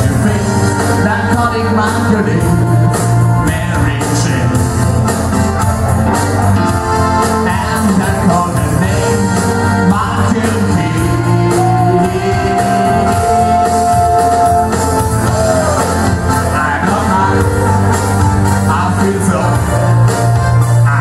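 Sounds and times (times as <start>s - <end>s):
person singing: 0.0s - 5.2s, 6.6s - 21.0s
live band playing dance music: 0.0s - 21.0s.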